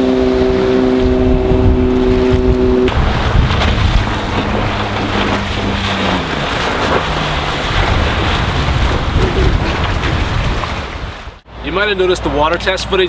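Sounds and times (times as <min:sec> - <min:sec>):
wind noise on microphone: 0:00.0 - 0:11.4
speedboat engine running: 0:00.0 - 0:11.5.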